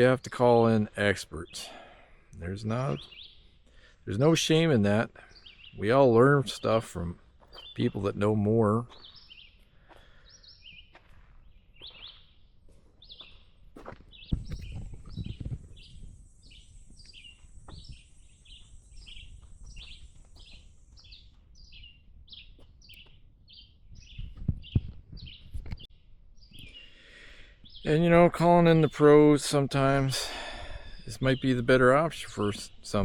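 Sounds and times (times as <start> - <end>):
bird chirping: 0.0 - 33.0.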